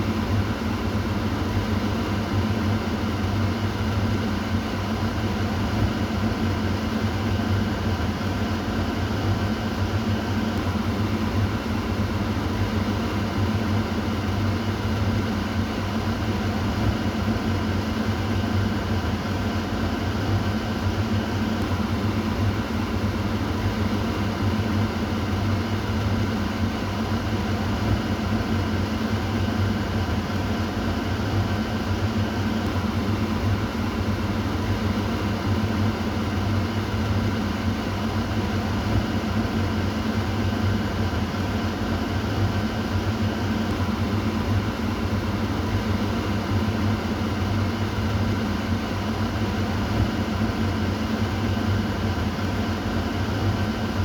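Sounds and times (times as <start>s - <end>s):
kitchen exhaust fan running: 0.0s - 54.0s.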